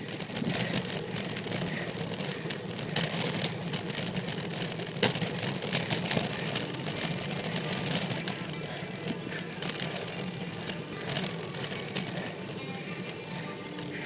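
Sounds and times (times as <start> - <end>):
bicycle riding rumble: 0.0 - 14.0
bicycle short clicks: 0.0 - 14.0.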